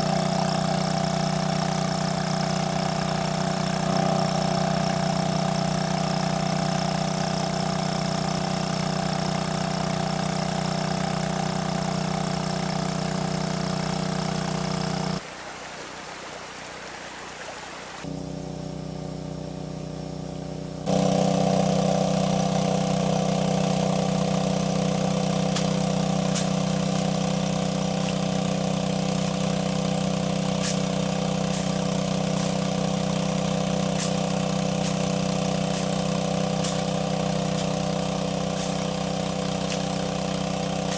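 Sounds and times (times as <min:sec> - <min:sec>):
small engine running: 0:00.0 - 0:15.2, 0:18.0 - 0:40.9.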